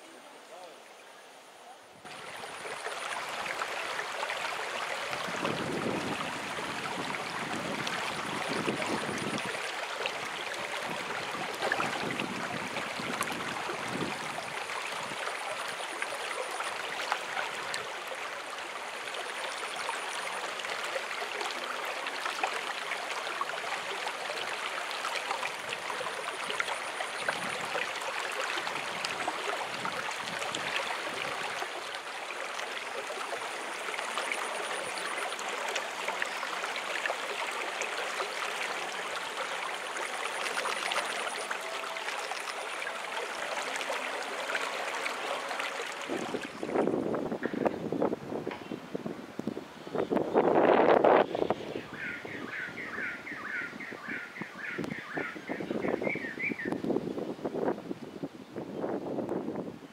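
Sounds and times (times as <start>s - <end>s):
stream flowing over rocks: 0.0s - 51.4s.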